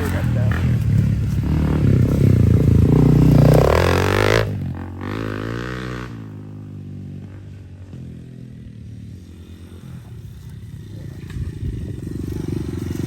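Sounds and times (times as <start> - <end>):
dirt bike accelerating: 0.0 - 13.0
dirt bike engines revving: 0.0 - 13.0.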